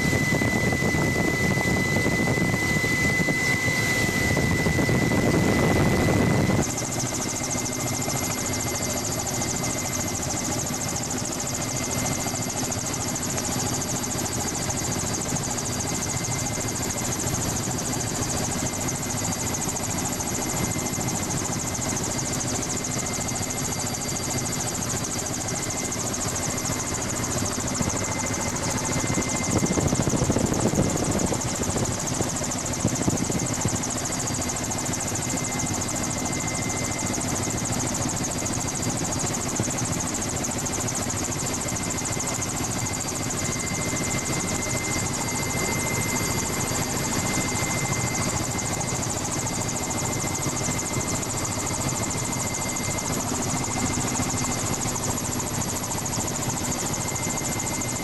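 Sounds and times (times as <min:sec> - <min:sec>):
helicopter engine and rotor drone: 0:00.0 - 0:58.0
steady whining tones: 0:00.0 - 0:58.0.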